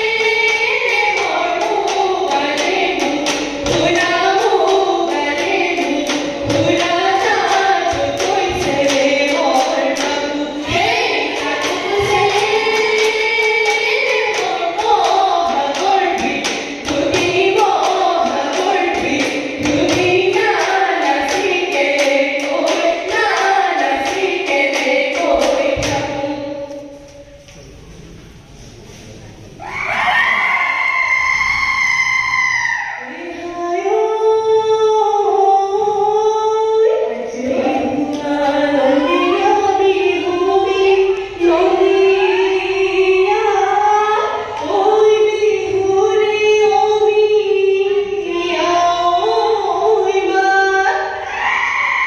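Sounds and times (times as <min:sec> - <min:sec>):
women singing together: 0:00.0 - 0:27.4, 0:29.8 - 0:52.0.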